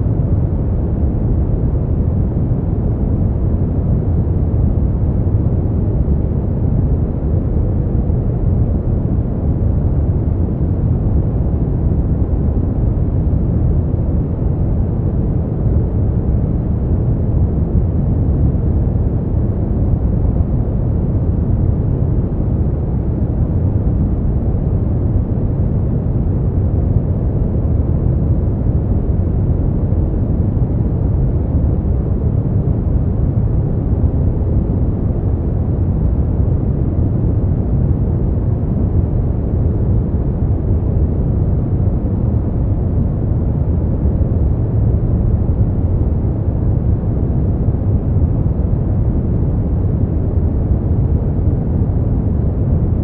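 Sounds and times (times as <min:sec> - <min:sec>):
low white noise rumble: 0:00.0 - 0:53.0.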